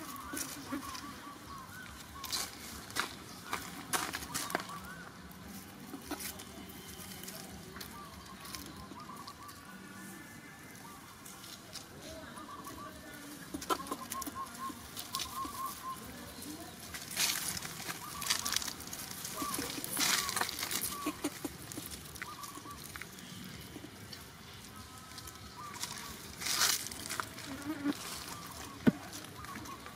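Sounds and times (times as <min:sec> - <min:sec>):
birds chirping: 0:00.0 - 0:29.9
dry leaves rustling: 0:00.0 - 0:29.9.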